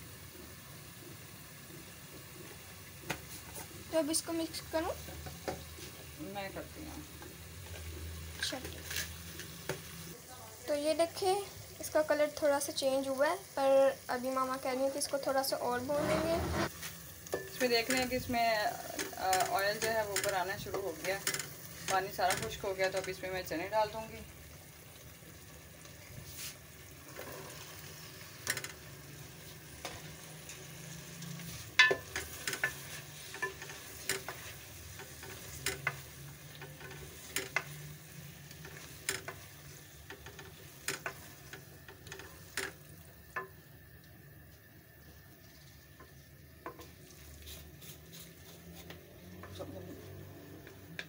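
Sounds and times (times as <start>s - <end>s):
low sizzle in pot: 0.0s - 51.0s.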